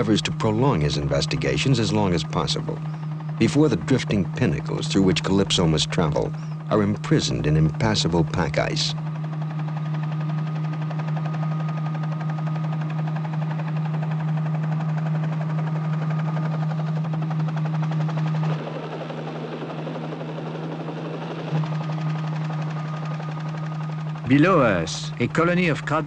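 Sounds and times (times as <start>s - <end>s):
helicopter rotor drone: 0.0s - 26.0s.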